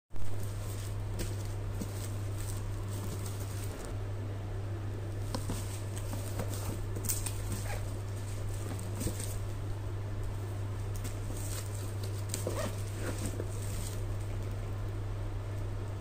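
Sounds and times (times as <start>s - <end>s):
steady low hum: 0.1s - 16.0s
plastic wrap crinkling: 0.2s - 4.0s, 5.2s - 14.6s.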